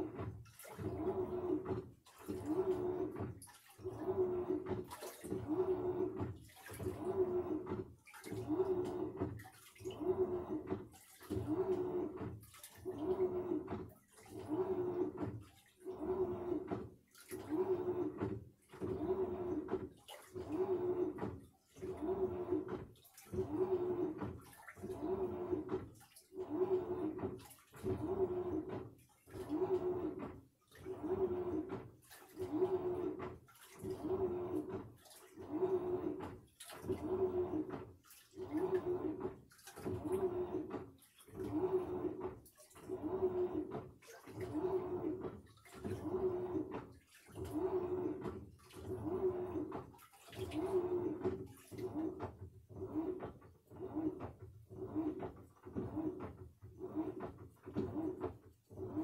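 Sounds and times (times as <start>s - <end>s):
washing machine agitating: 0.0s - 59.0s.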